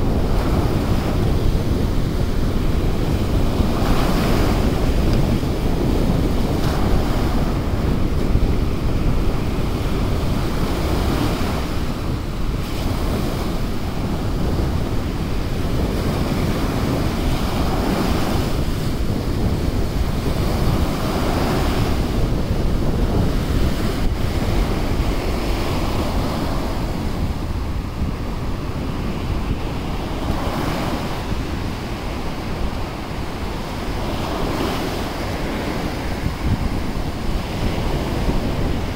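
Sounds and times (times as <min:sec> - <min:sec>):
surf breaking on beach: 0:00.0 - 0:38.9
wind buffeting microphone: 0:00.0 - 0:38.9.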